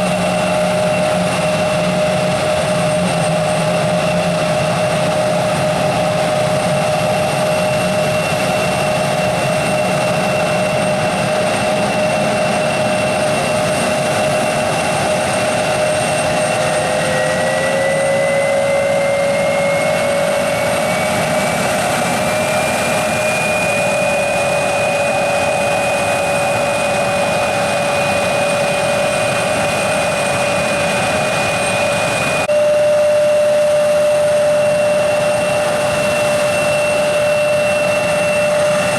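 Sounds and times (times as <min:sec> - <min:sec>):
jet engine spooling up: 0:00.0 - 0:38.9
jet engines whining: 0:00.0 - 0:38.9.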